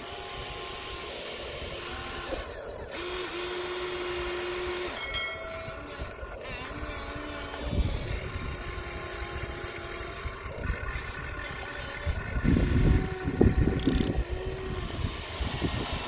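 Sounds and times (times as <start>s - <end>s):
electric motors whining: 0.0s - 16.0s
gritty sand rattle: 0.0s - 16.0s.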